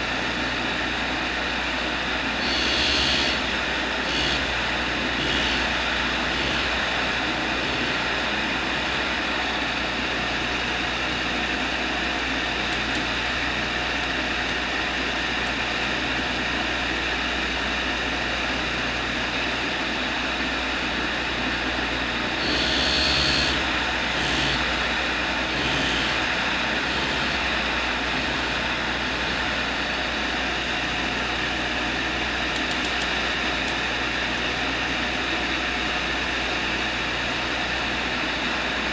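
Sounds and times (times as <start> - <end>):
machine running steadily: 0.0 - 38.9.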